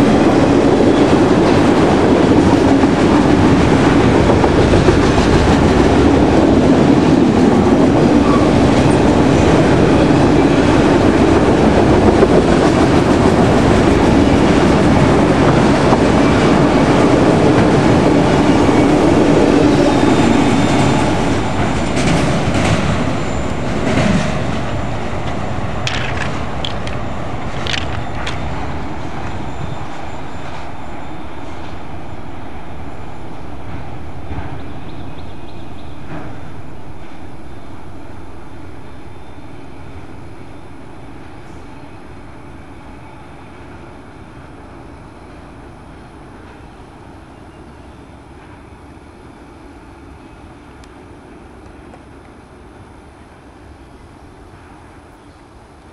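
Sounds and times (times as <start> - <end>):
freight train passing: 0.0 - 55.9.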